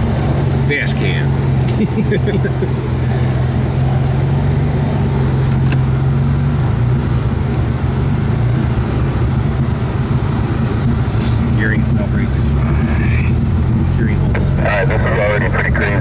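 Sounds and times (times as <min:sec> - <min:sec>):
engine running in low gear: 0:00.0 - 0:16.0.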